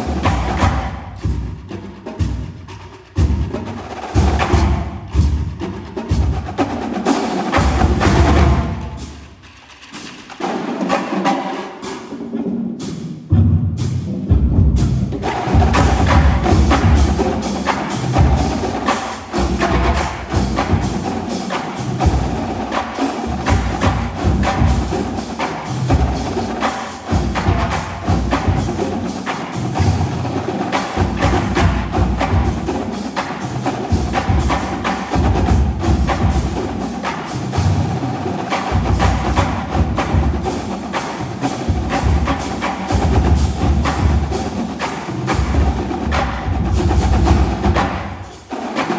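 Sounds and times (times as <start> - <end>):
rapid drum strokes: 0.0 - 48.9.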